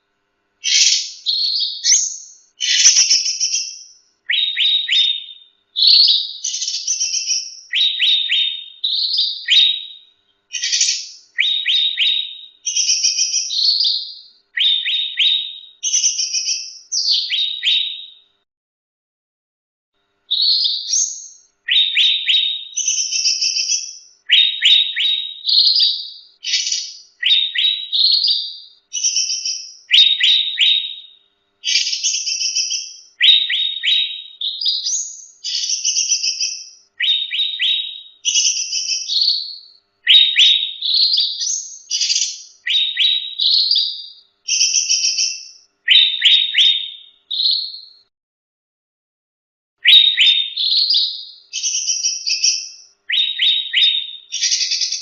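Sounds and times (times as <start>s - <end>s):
songbird singing: 0.6s - 18.3s, 20.3s - 48.1s, 49.8s - 55.0s.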